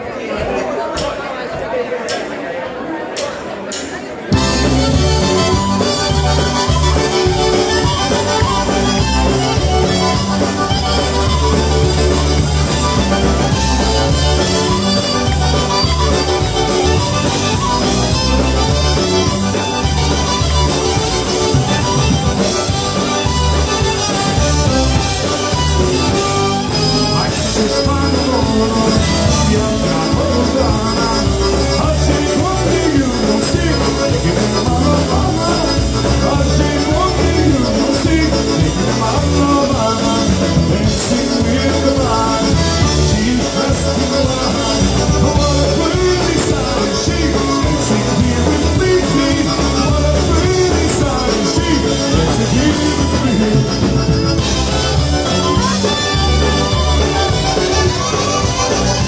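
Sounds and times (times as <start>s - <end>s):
drums: 0.0s - 59.0s
polka band playing: 3.6s - 59.0s
accordions: 4.2s - 59.0s
electric bass: 4.3s - 59.0s
clarinet: 4.4s - 59.0s
trumpet: 4.4s - 59.0s.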